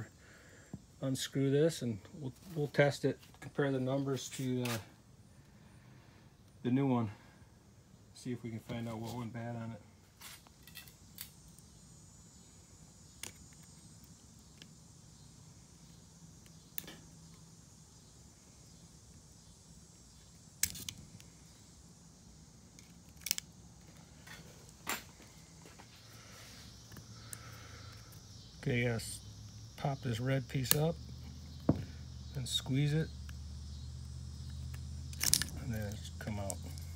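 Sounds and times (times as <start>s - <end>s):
faint low hum: 0.0s - 36.9s.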